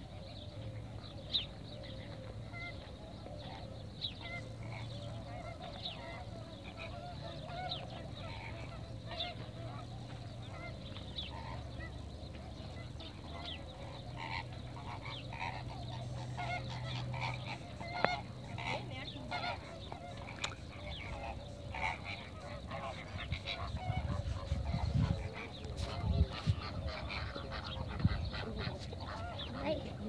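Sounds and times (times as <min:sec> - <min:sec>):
waterbirds calling: 0:00.0 - 0:30.0.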